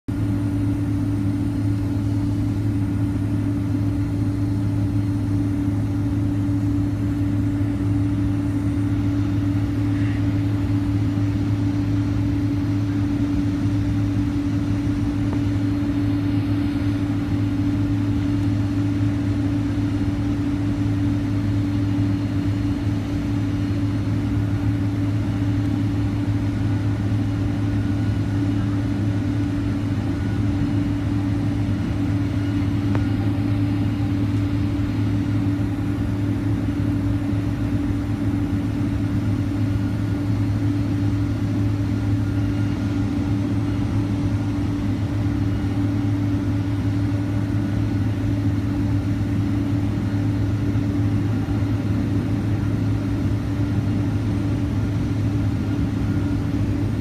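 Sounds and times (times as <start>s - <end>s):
airplane cabin engine drone: 0.1s - 57.0s.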